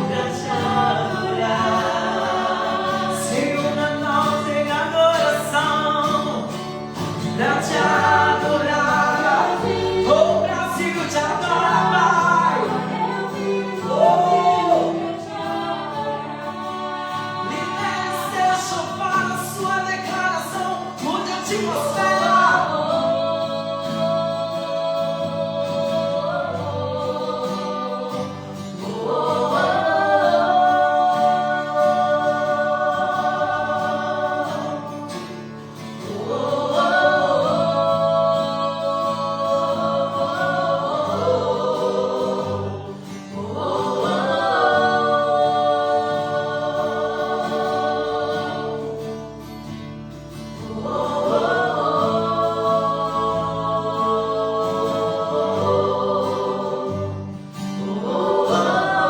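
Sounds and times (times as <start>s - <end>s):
voices singing worship song: 0.0s - 59.0s.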